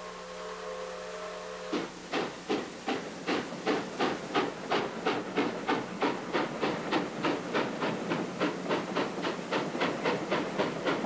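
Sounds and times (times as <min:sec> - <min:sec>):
steam locomotive chuffing: 0:00.0 - 0:11.0.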